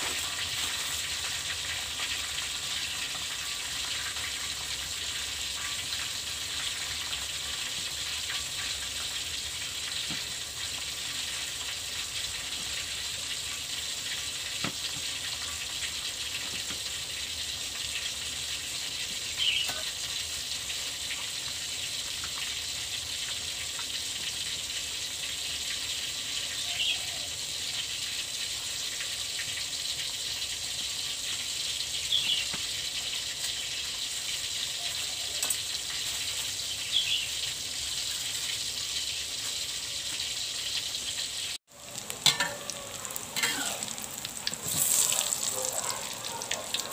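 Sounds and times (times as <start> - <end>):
wok hissing: 0.0 - 46.9.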